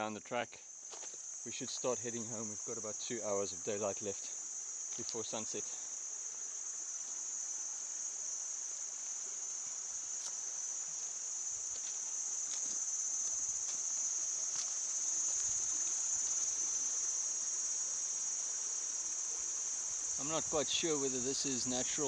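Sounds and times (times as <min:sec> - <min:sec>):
insect chorus shrilling: 0:00.0 - 0:22.0.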